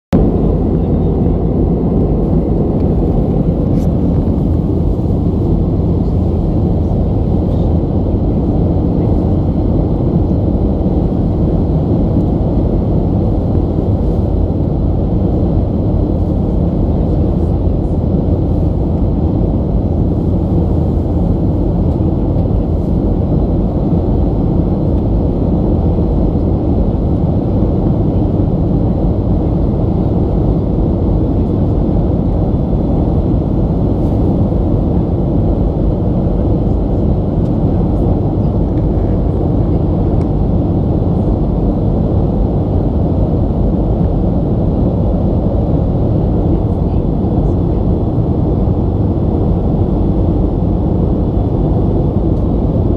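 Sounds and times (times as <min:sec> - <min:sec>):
airliner cabin drone: 0:00.1 - 0:52.9.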